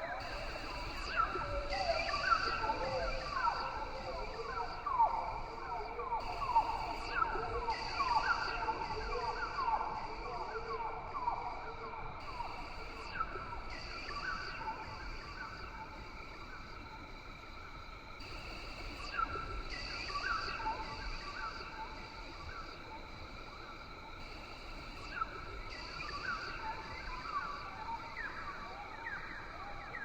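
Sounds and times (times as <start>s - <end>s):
high-pitched insect drones: 0.2s - 9.6s, 12.3s - 30.0s.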